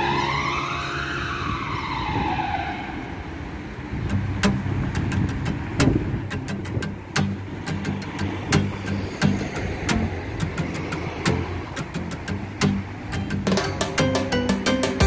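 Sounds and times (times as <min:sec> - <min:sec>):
high whine gliding: 0:00.0 - 0:15.0
vehicle engine hum: 0:00.0 - 0:15.0.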